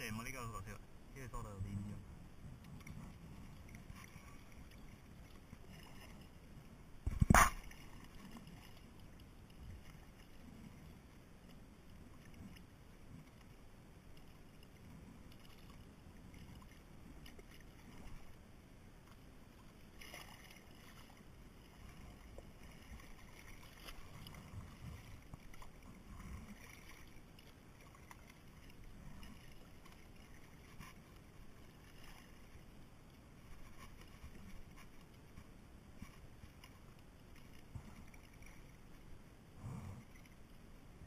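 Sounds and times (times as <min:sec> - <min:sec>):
water around a kayak: 0:00.0 - 0:41.0
wind: 0:00.0 - 0:41.0.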